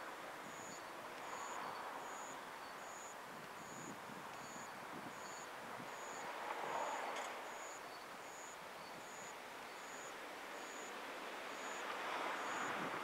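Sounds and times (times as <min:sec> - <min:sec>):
soft rushing hiss: 0:00.0 - 0:13.0.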